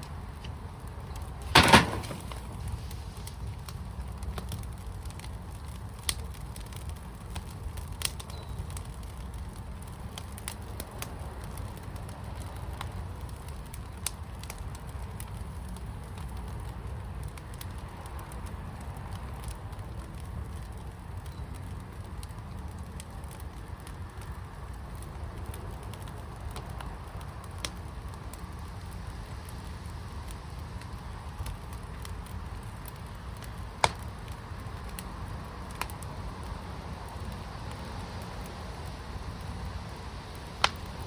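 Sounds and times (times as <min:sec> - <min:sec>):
fire crackling: 0:00.0 - 0:41.0
fire low rumble: 0:00.0 - 0:41.0.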